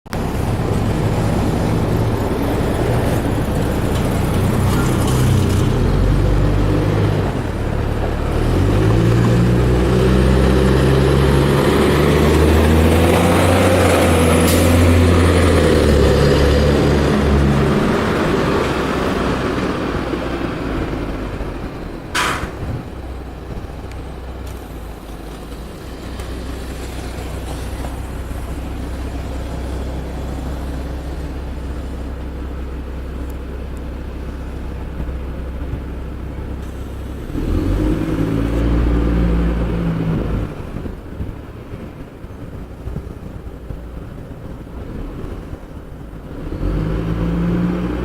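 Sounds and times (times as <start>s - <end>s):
bus engine running: 0.1s - 48.0s.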